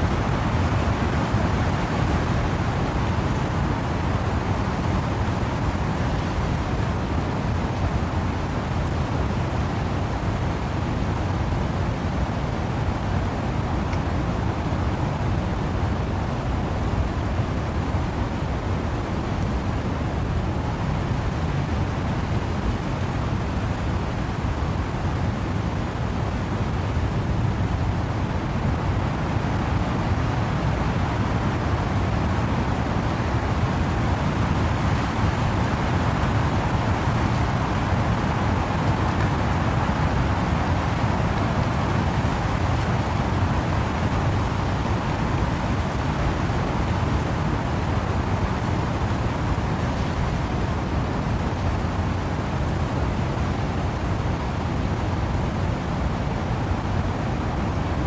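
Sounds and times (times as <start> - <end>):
rain in trees: 0.0 - 58.0
wind in trees: 0.0 - 58.0.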